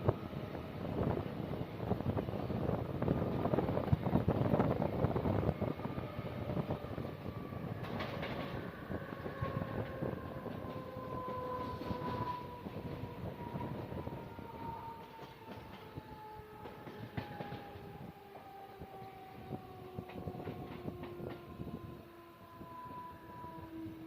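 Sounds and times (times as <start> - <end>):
train rattling on rails: 0.0 - 24.0.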